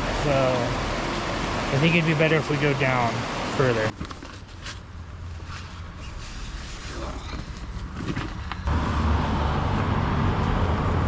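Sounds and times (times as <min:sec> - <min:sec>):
car engine rumble and road noise: 0:00.0 - 0:11.0.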